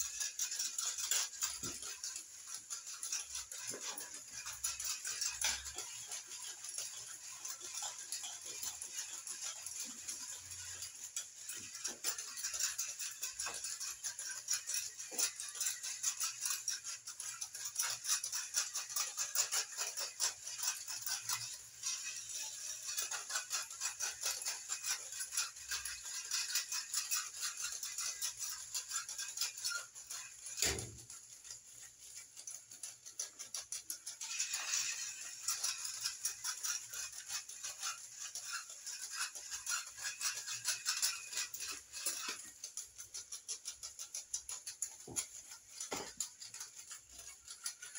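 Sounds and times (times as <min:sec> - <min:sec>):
toy horses clicking and rattling: 0:00.0 - 0:47.9.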